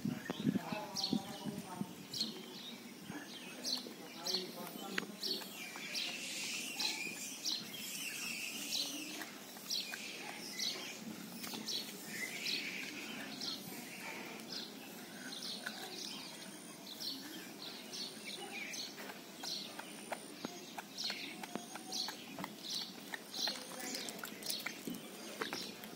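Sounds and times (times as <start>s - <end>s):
faint background noise: 0.0s - 25.9s
small birds chirping: 0.0s - 25.9s.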